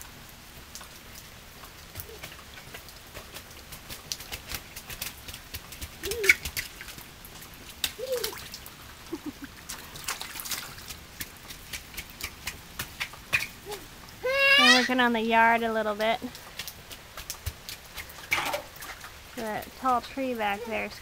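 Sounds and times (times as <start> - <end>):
rain drops tapping: 0.0 - 21.0.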